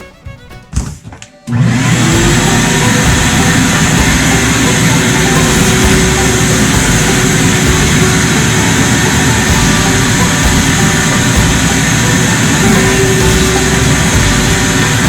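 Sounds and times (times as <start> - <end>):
vacuum cleaner running: 1.5 - 15.0.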